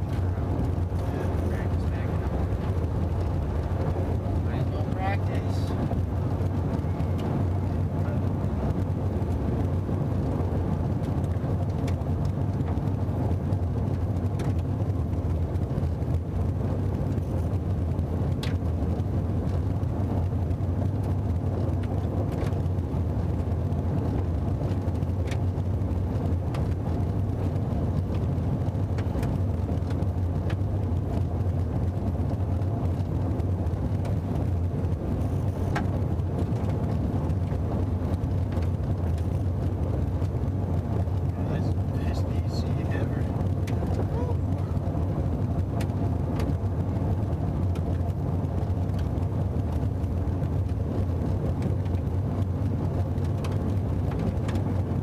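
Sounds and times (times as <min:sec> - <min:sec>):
car engine and tyre drone: 0:00.0 - 0:55.0.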